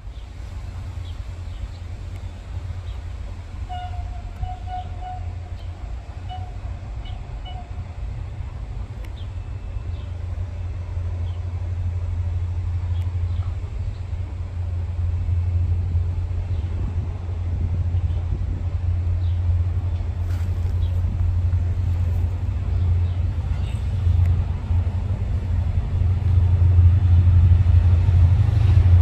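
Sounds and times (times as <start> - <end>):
locomotive engine rumble: 0.0 - 29.0.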